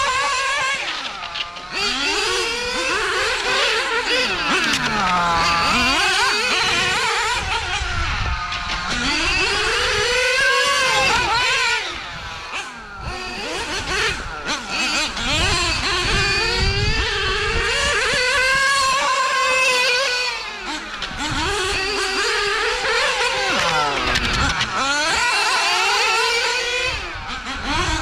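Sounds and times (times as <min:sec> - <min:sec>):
radio-controlled car engines revving: 0:00.0 - 0:28.0.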